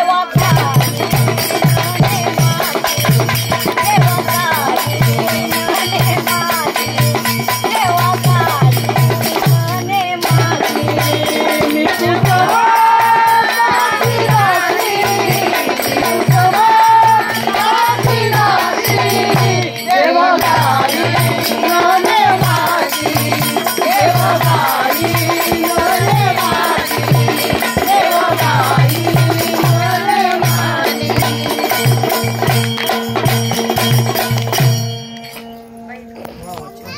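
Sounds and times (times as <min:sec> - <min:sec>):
woman singing devotional folk song: 0:00.0 - 0:34.3
drum beating: 0:00.0 - 0:35.3.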